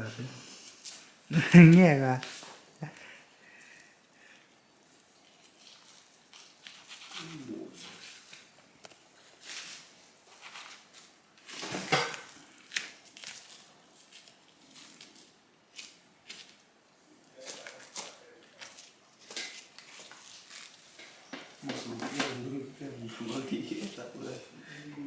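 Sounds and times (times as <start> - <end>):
rustling and crackling: 0.0 - 25.0.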